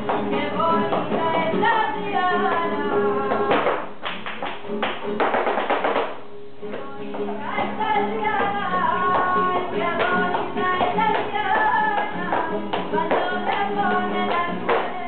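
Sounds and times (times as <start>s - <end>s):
singer's ornamented vocal line: 0.0s - 3.9s, 6.6s - 15.0s
flamenco accompaniment: 0.0s - 15.0s.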